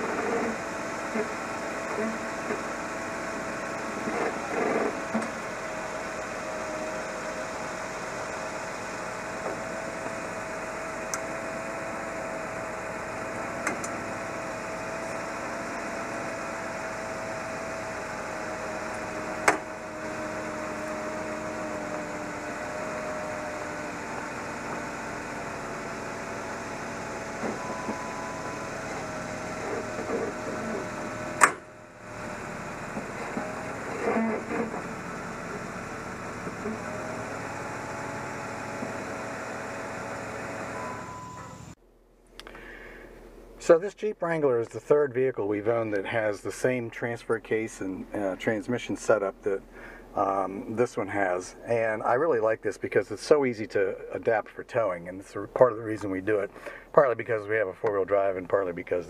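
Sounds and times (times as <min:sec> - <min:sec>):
vehicle engine idling: 0:00.0 - 0:43.8, 0:45.6 - 0:59.0.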